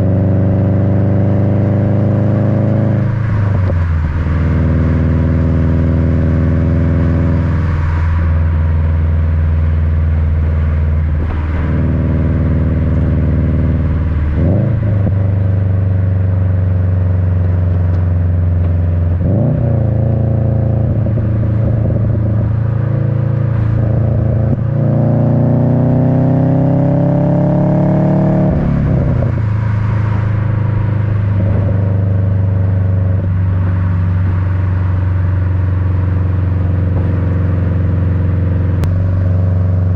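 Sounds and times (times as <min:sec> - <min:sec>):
car exhaust rumble: 0:00.0 - 0:39.9.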